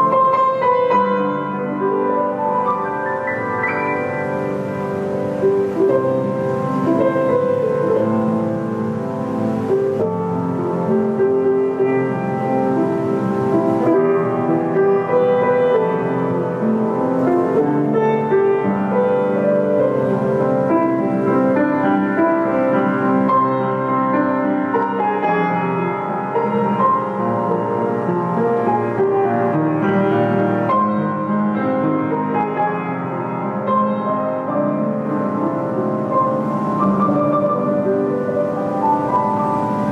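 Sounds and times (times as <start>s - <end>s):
piano playing: 0.0s - 39.9s.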